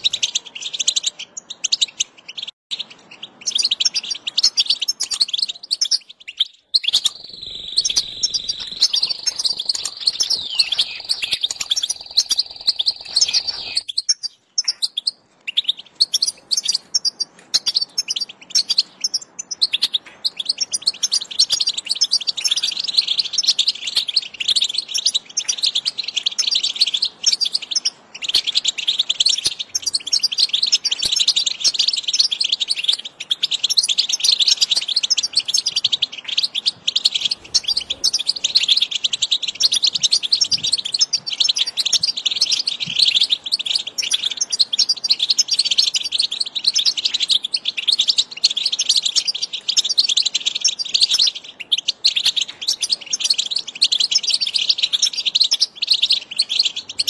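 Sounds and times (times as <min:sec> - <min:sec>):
finch singing: 0:00.0 - 0:57.0.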